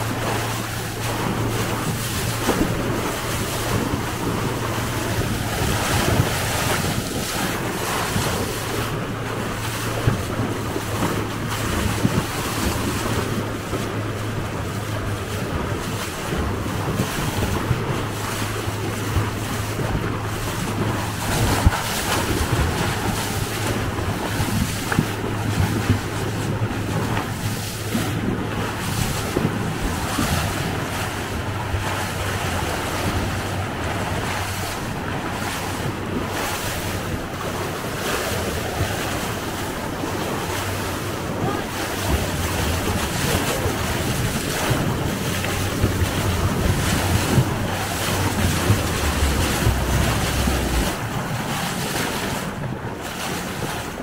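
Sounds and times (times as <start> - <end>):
low engine hum: 0.0 - 54.0
water rushing past boat: 0.0 - 54.0
wind buffeting microphone: 0.0 - 54.0.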